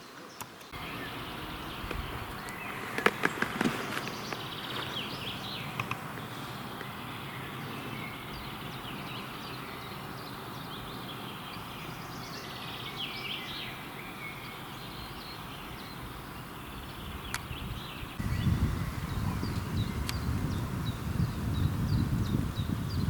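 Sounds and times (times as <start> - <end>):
birds chirping and trilling: 0.0 - 23.0
steady background hiss: 0.0 - 23.0.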